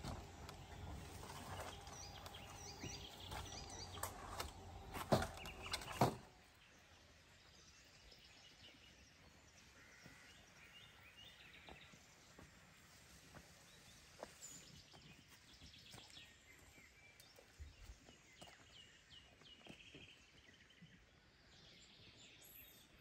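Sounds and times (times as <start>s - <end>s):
birds chirping: 0.0s - 23.0s
faint outdoor ambience: 0.0s - 23.0s.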